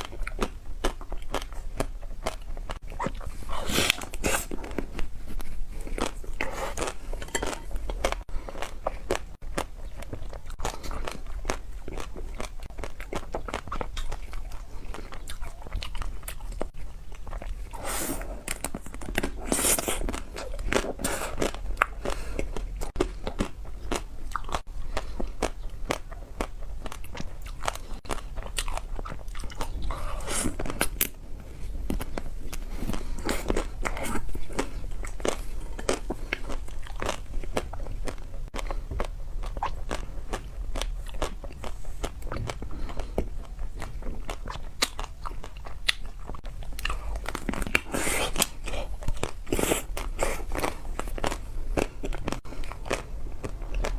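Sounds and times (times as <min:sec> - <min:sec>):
chewing: 0:00.0 - 0:53.9.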